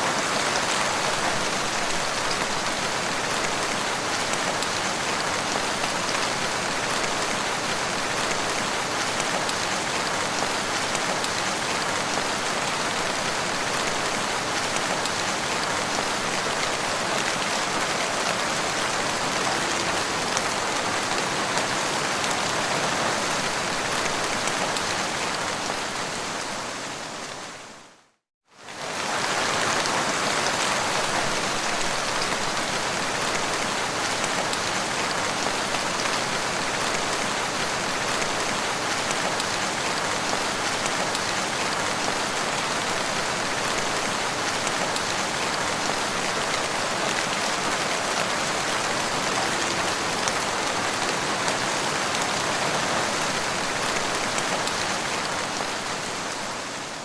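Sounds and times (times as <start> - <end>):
dense rain falling on ground: 0.0 - 57.0.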